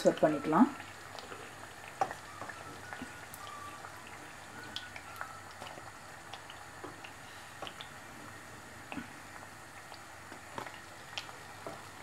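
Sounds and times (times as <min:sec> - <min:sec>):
food frying in hot oil: 0:00.0 - 0:12.0
oil popping and crackling: 0:00.0 - 0:12.0.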